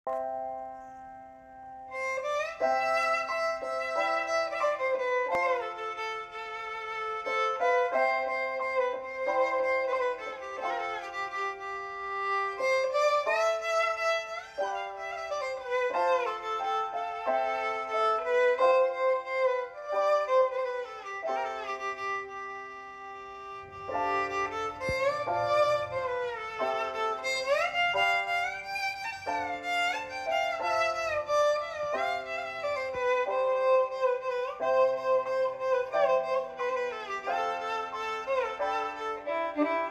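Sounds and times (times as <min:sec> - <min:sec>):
violin melody: 0:00.1 - 0:39.9.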